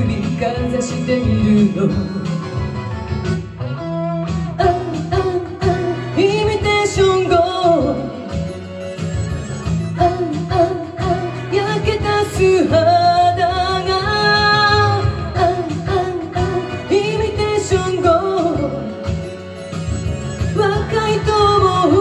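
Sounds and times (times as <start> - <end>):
woman singing into microphone: 0.0 - 2.5, 4.3 - 8.6, 9.6 - 19.4, 20.4 - 22.0
recorded backing music: 0.0 - 22.0.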